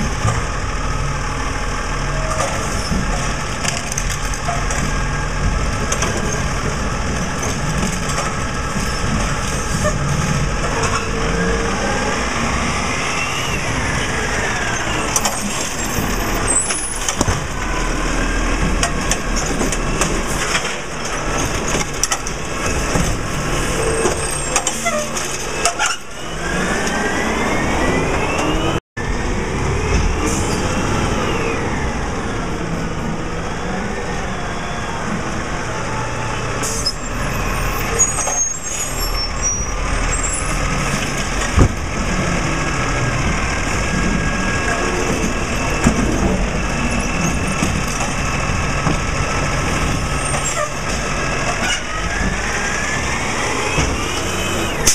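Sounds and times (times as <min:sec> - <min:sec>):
truck engine and hydraulics whining: 0:00.0 - 0:54.9.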